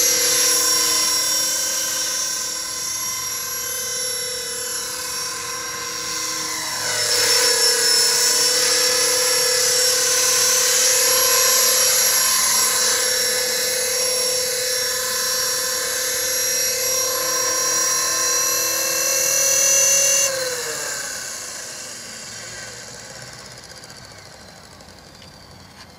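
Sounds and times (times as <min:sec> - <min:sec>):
helicopter rotor noise: 0:00.0 - 0:25.9
model helicopter motor whine: 0:00.0 - 0:25.9.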